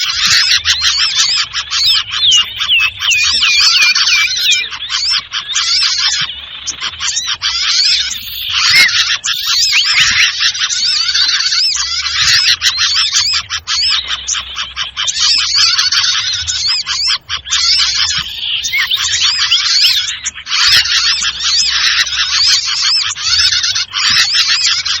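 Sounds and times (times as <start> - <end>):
chorus of high bird chirps: 0.0 - 25.0.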